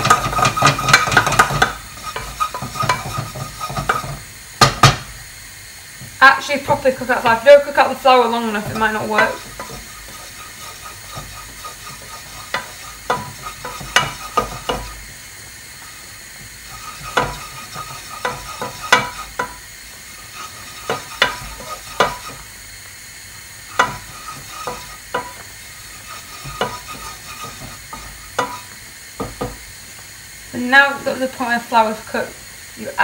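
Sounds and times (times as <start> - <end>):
spoon scraping and knocking pan: 0.0 - 5.2, 6.0 - 22.6, 23.7 - 30.0
roux sizzling: 0.0 - 33.0.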